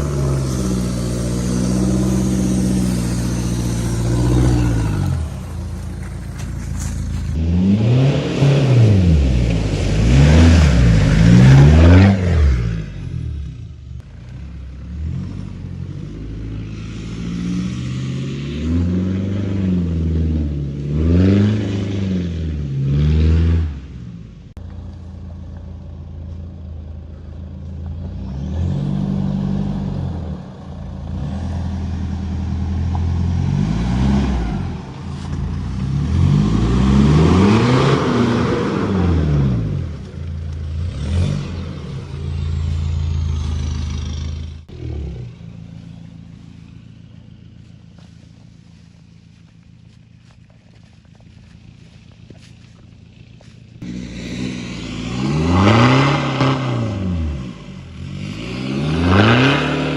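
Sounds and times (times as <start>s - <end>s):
diesel engine revving: 0.0s - 24.6s, 25.6s - 59.9s.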